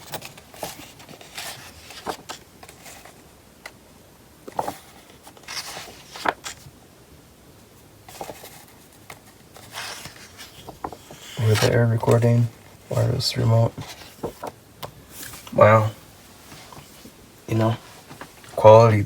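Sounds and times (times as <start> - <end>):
paper pages rustling and flicking: 0.0 - 3.3, 4.5 - 6.7, 8.1 - 18.8.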